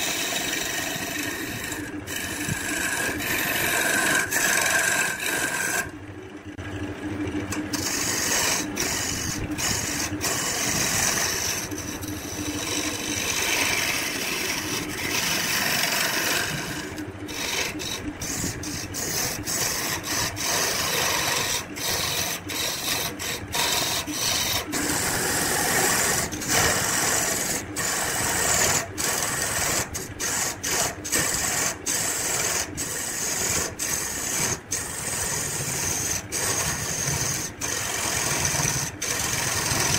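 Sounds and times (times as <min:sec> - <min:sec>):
tool rasping against spinning wood: 0:00.0 - 0:06.0, 0:07.4 - 0:39.9
wood lathe running: 0:00.0 - 0:06.0, 0:07.3 - 0:39.9.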